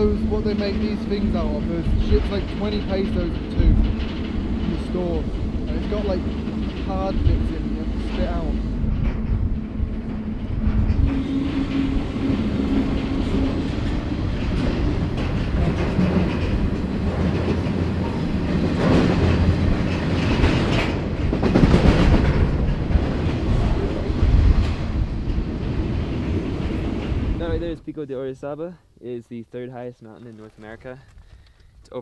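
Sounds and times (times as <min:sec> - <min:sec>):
wheels clattering over rail joints: 0:00.0 - 0:27.7
train wagons rumbling: 0:00.0 - 0:28.6.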